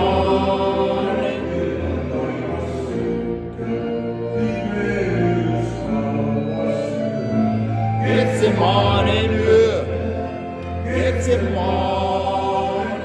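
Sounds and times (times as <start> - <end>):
men singing slow song: 0.0 - 13.0.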